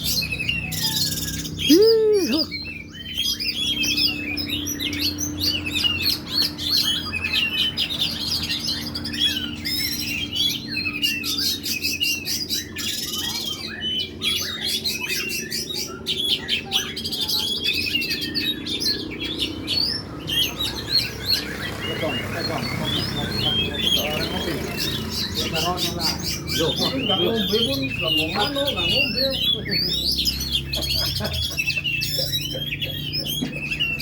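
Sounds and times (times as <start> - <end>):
bird singing chirps and whistles: 0.0 - 34.0.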